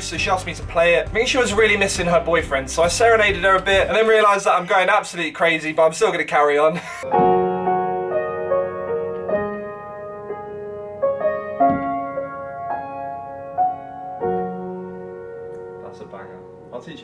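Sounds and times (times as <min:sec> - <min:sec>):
piano chords and melody: 0:00.0 - 0:03.9, 0:07.0 - 0:17.0.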